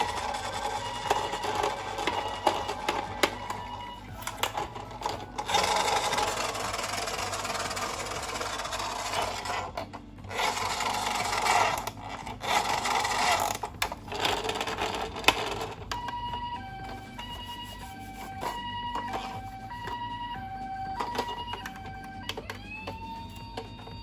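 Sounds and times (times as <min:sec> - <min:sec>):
toy car rolling and scraping: 0:00.0 - 0:24.0.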